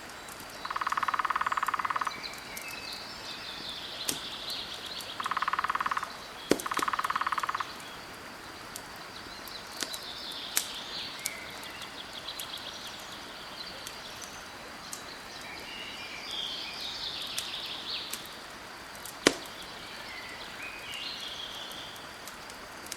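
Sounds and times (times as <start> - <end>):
birds chirping: 0.0 - 22.2
campfire crackling and popping: 0.0 - 22.9.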